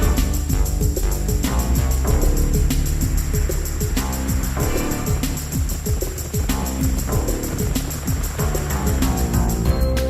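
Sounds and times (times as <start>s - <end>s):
background music: 0.0s - 10.0s
deep drum hits: 0.0s - 10.0s.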